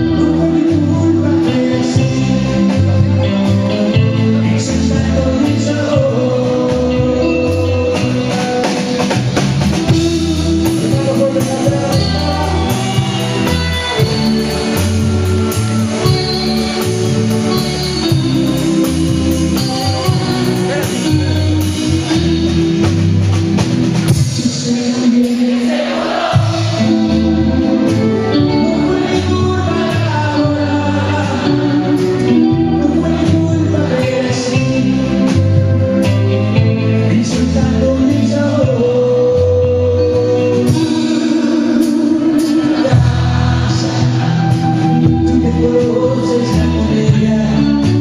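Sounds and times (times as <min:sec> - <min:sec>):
electric guitars: 0:00.0 - 0:48.0
live band playing pop song: 0:00.0 - 0:48.0
man singing lead vocals: 0:00.0 - 0:48.0.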